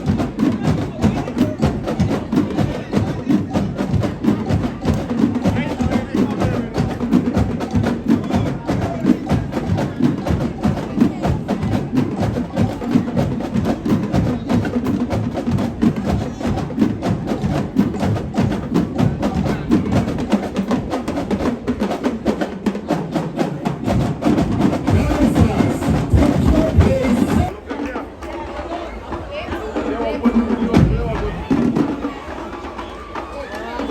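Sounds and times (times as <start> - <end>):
drum cadence: 0.0 - 28.0.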